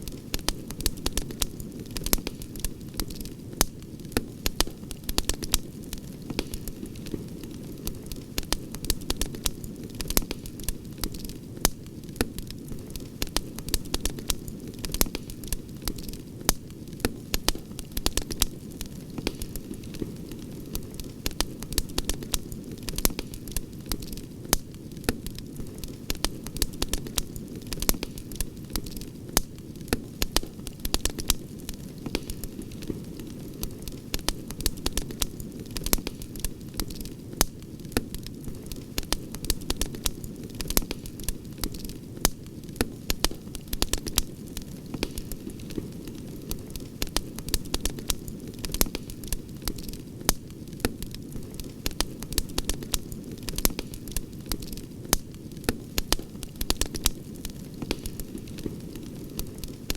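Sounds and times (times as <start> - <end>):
campfire pops and crackles: 0.0 - 59.9.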